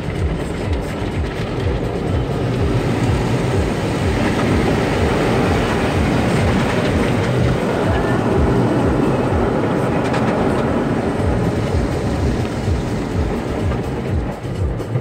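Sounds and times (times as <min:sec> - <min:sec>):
car wash water spray: 0:00.0 - 0:15.0
pulsing mechanical rumble: 0:00.0 - 0:15.0.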